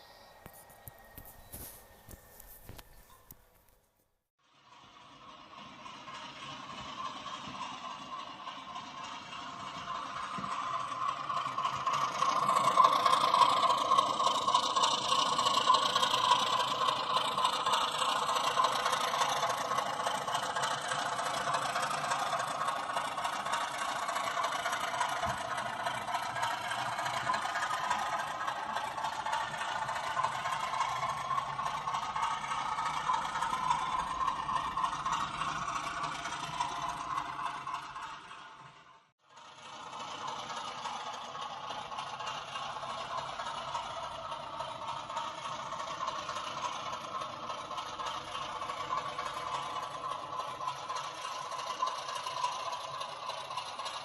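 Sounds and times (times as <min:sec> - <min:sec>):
model locomotive diesel engine sound: 0:00.0 - 0:03.8, 0:04.4 - 0:54.0.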